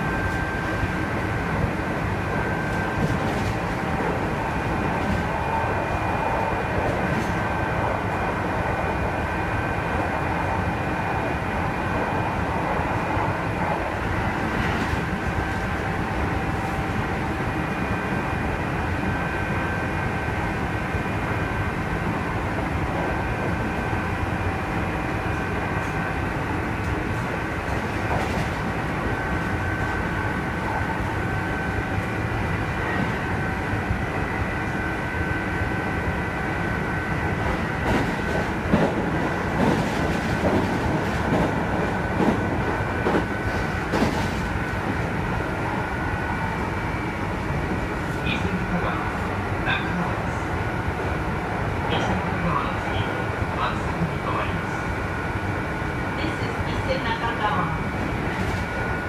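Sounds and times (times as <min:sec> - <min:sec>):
train running rumble: 0:00.0 - 0:59.0.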